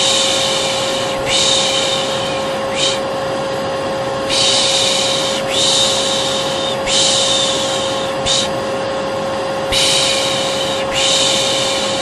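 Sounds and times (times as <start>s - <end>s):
person shushing: 0.0s - 3.1s, 4.3s - 8.6s, 9.7s - 12.0s
vacuum cleaner motor whine: 0.0s - 12.0s.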